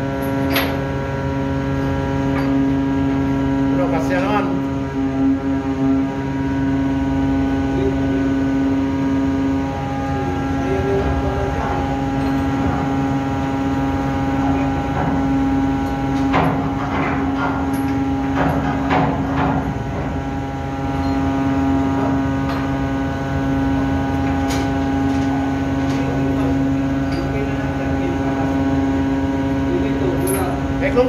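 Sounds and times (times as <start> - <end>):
ship machinery humming: 0.0 - 31.0.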